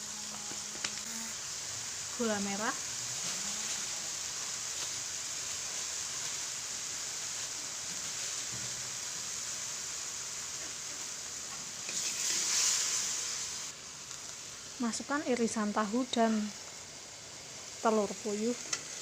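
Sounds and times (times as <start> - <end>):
paste sizzling in a frying pan: 0.0 - 19.0.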